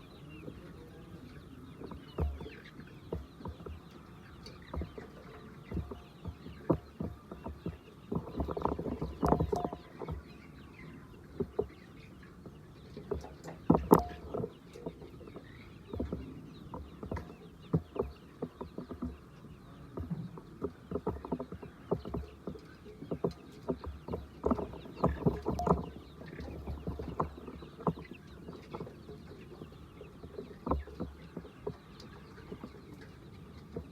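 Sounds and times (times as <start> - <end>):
hens clucking: 0.0 - 33.9.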